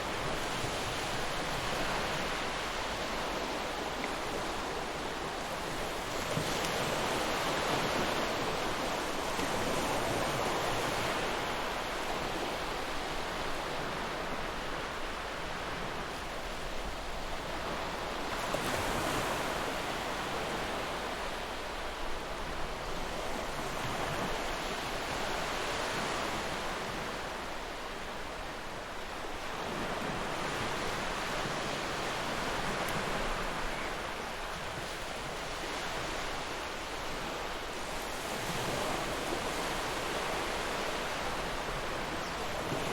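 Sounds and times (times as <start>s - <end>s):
ocean waves washing onto shore: 0.0s - 42.9s.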